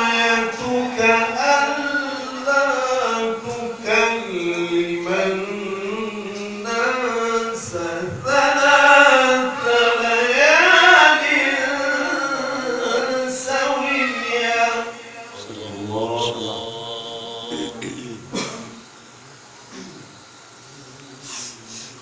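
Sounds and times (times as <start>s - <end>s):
man chanting melodic recitation: 0.0s - 17.8s.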